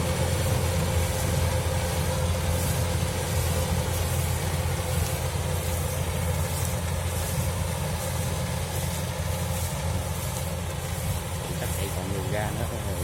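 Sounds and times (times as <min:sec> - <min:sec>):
combine harvester engine droning: 0:00.0 - 0:13.0.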